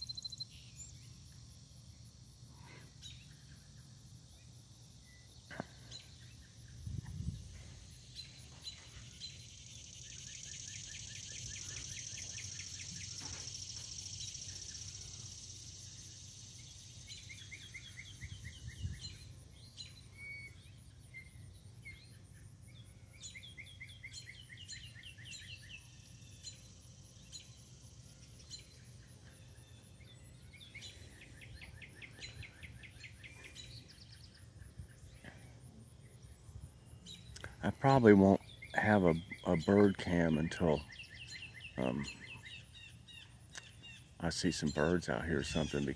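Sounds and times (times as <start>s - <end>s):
birds singing trills: 0.0s - 45.9s
high steady hiss: 0.0s - 45.9s.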